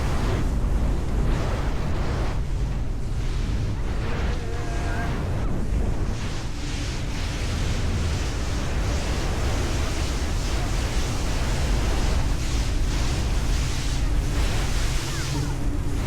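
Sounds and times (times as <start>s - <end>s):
deep low engine noise: 0.0s - 16.0s
water spraying past hull: 0.0s - 16.0s
wind buffeting microphone: 0.0s - 16.0s.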